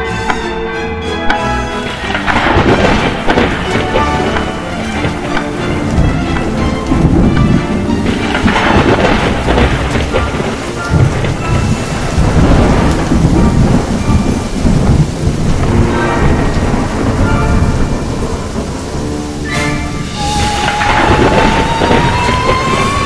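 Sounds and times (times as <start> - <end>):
heavy rain: 0.0 - 23.0
rolling thunder: 1.7 - 23.0.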